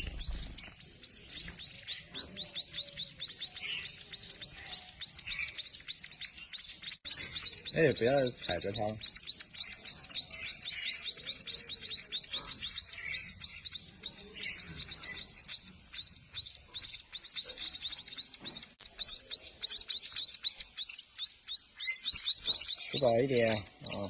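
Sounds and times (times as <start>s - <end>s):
fledgling birds begging chirps: 0.0s - 24.0s.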